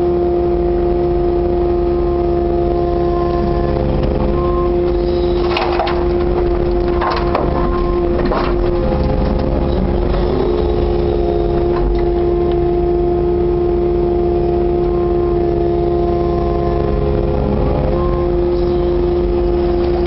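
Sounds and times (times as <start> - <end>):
excavator diesel engine and hydraulics: 0.0 - 20.0
steady whine: 0.0 - 20.0.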